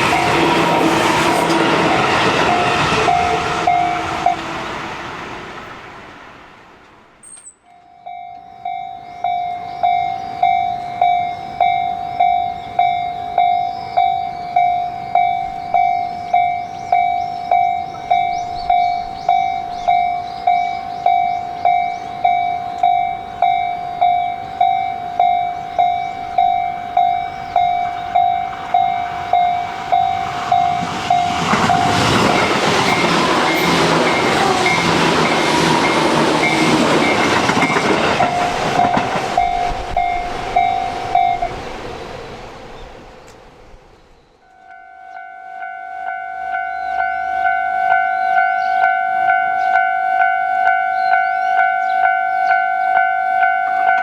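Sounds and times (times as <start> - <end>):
railroad crossing warning bell: 0.0 - 4.7, 7.2 - 41.6, 44.4 - 54.0
passing train rumble: 0.0 - 54.0.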